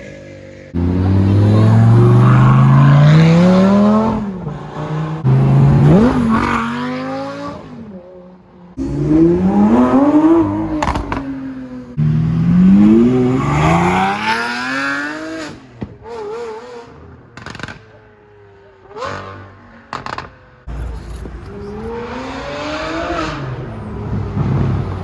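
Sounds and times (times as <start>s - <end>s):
sports car engines revving: 0.0s - 25.0s.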